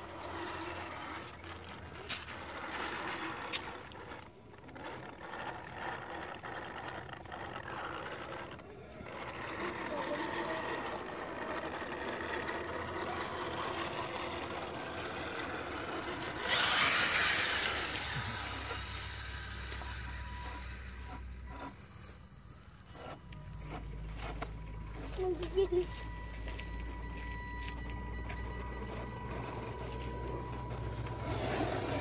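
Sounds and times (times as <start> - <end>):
toy truck electric motor and gears: 0.0 - 32.0.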